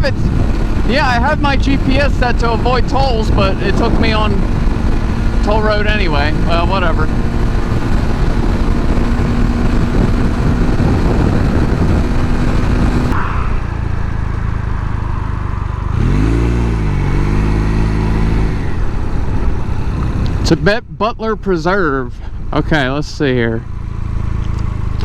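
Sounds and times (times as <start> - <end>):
wind noise: 0.0 - 20.8
motorcycle engine: 0.0 - 20.9, 22.2 - 25.0.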